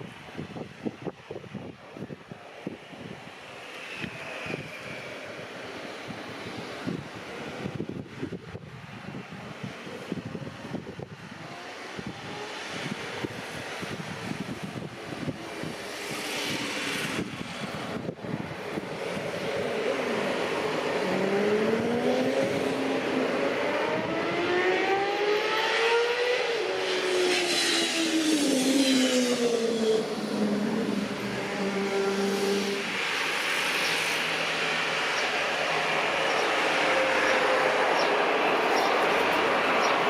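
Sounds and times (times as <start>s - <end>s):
jet engines roaring with whine: 0.0s - 40.0s.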